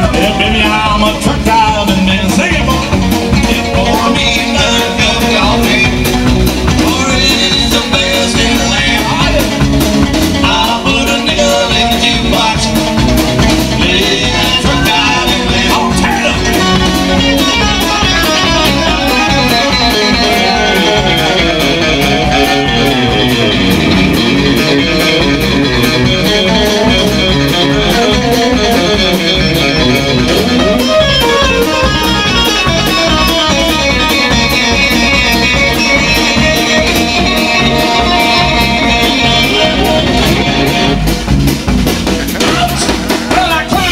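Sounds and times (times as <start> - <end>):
bass guitar: 0.0 - 43.9
drum kit with cymbal beat: 0.0 - 43.9
electric guitar lead: 0.0 - 43.9.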